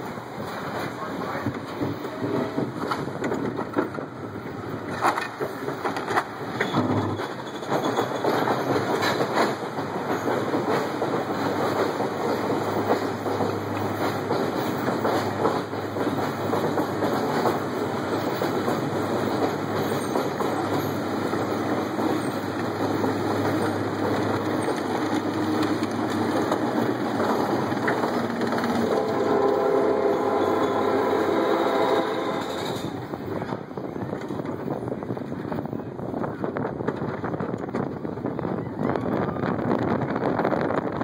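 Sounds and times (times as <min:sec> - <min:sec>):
train wheels rumbling on track: 0:00.0 - 0:41.0
roller coaster chain lift clattering: 0:00.4 - 0:29.6, 0:32.3 - 0:38.0.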